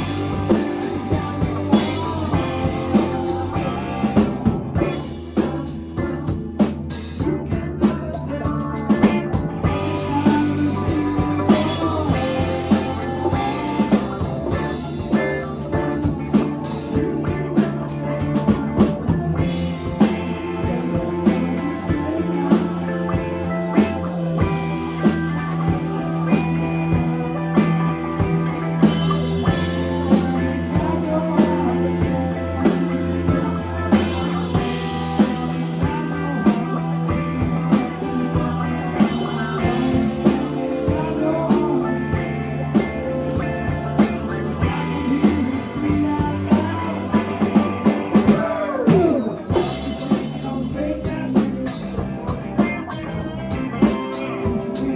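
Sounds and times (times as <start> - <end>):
drum kit beat: 0.0 - 54.9
electric guitar: 0.0 - 54.9.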